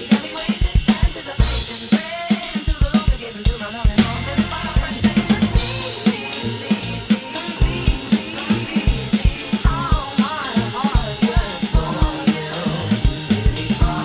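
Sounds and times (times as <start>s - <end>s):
backing music track: 0.0s - 14.0s
drum kit playing fast groove: 0.0s - 14.0s.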